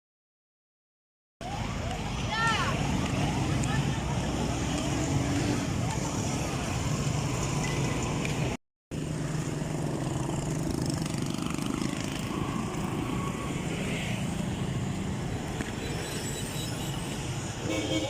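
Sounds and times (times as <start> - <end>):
road noise: 1.4 - 18.0.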